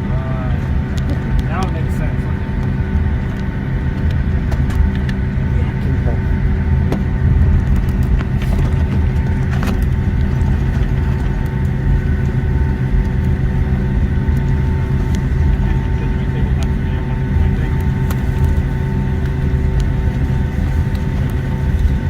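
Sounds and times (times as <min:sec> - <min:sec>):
engine whine: 0:00.0 - 0:22.0
jet engines rumbling: 0:00.0 - 0:22.0.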